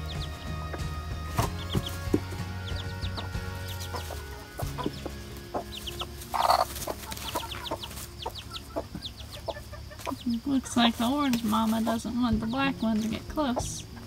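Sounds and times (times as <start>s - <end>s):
chick peeping: 0.0s - 14.0s
hens clucking: 0.0s - 14.0s.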